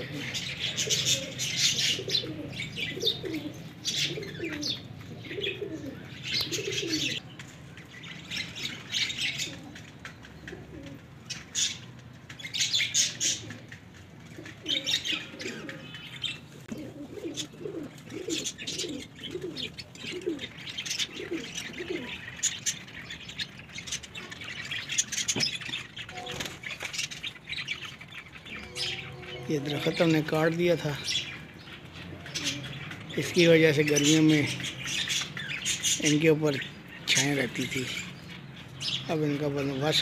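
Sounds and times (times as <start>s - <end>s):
pigeons cooing: 0.0s - 40.0s
small birds chirping: 0.0s - 40.0s.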